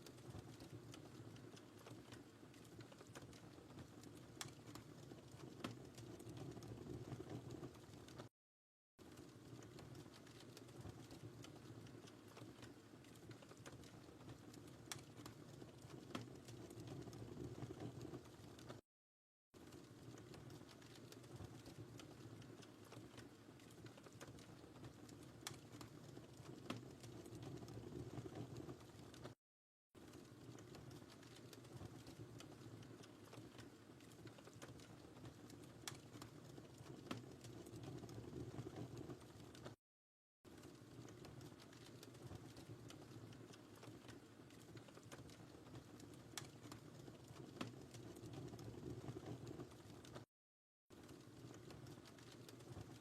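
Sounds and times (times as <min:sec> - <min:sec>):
wood fire crackling and popping: 0:00.0 - 0:08.3, 0:09.0 - 0:18.8, 0:19.6 - 0:29.4, 0:30.0 - 0:39.8, 0:40.5 - 0:50.3, 0:50.9 - 0:53.0
fire flames rumbling: 0:00.1 - 0:08.3, 0:09.1 - 0:18.8, 0:19.6 - 0:29.4, 0:30.1 - 0:39.8, 0:40.6 - 0:50.2.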